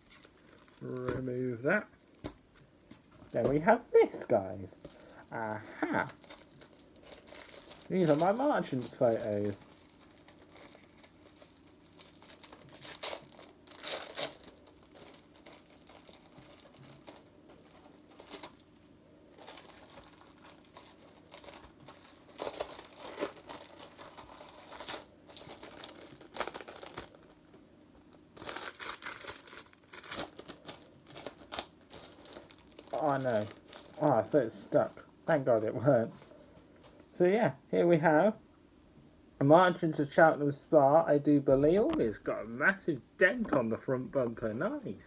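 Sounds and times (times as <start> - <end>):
packaging crinkling and tearing: 0.0 - 37.0.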